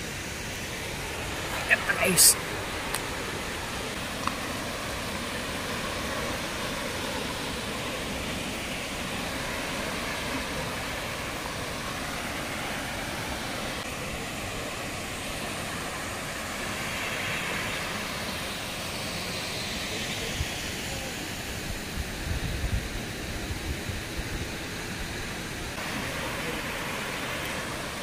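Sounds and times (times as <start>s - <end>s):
waterfall rushing: 0.0s - 21.9s, 24.5s - 28.0s.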